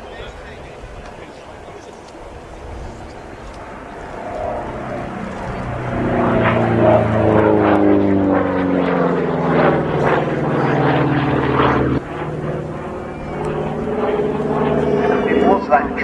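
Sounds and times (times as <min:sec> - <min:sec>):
propeller plane engine flypast: 0:00.0 - 0:16.0.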